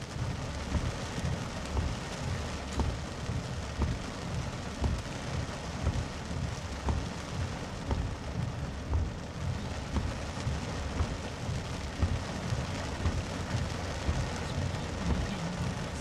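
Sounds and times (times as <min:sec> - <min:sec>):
heavy rain on car roof: 0:00.0 - 0:16.0
windshield wipers knocking: 0:00.1 - 0:16.0.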